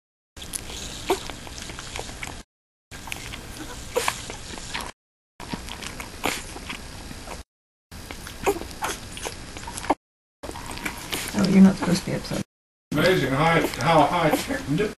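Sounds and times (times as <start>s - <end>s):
puppy suckling on bottle: 0.4s - 2.4s, 3.0s - 7.4s, 8.0s - 12.1s, 13.0s - 14.6s.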